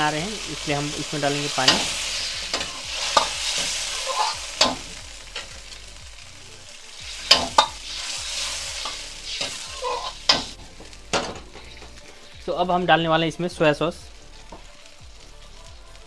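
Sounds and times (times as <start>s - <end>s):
water sizzling in hot wok: 0.0s - 16.0s.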